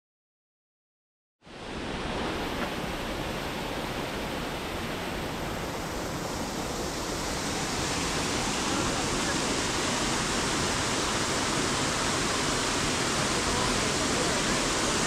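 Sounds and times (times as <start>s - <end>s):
waterfall rushing into pool: 1.5s - 15.0s.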